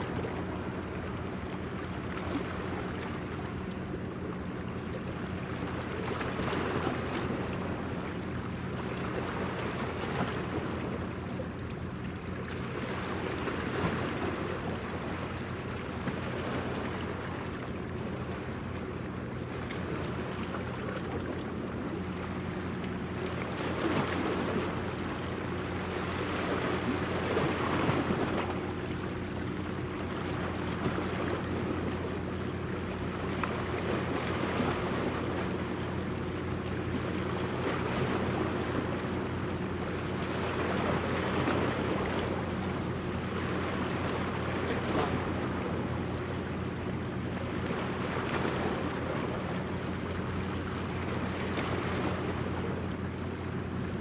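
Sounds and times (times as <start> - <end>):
low ship engine hum: 0.0 - 54.0
wind and water rushing: 0.0 - 54.0.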